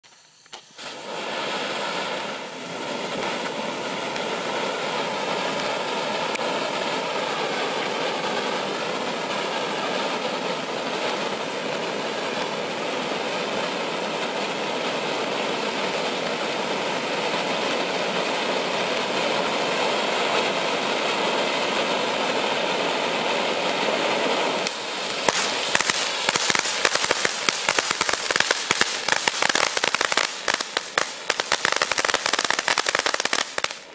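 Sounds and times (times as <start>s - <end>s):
firework crackling: 0.0s - 33.9s
firework fountain hissing: 0.0s - 33.9s.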